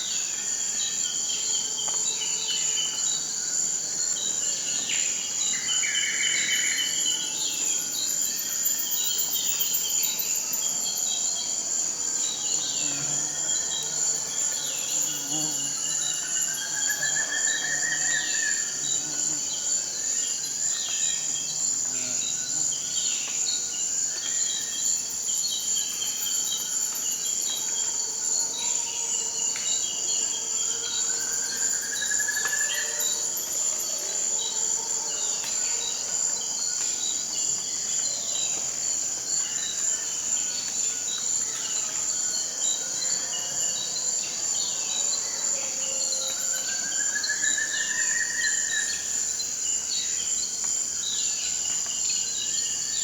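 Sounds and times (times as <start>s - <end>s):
insect chorus: 0.0s - 53.0s.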